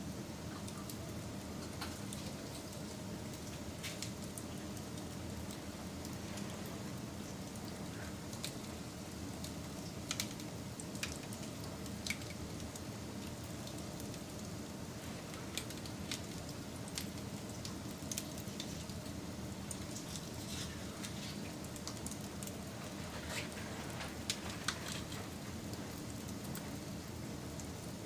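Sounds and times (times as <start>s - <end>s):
campfire crackling: 0.4s - 28.0s
fire popping: 0.5s - 28.0s.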